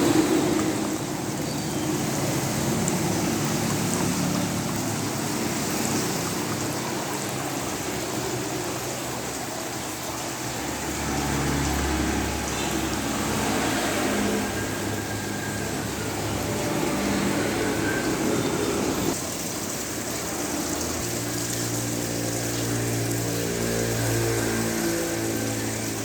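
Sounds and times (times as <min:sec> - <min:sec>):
water splashing in fountain: 0:00.0 - 0:26.0.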